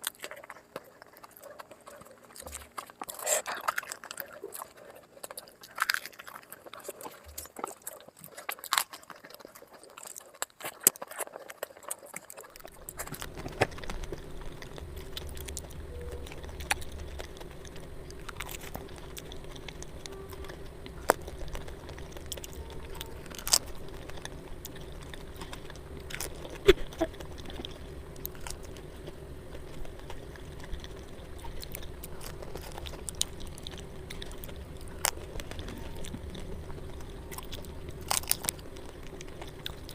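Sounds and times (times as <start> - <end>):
steady low hum: 0.0 - 10.2, 11.8 - 39.9
person eating crunchy food: 0.0 - 39.9.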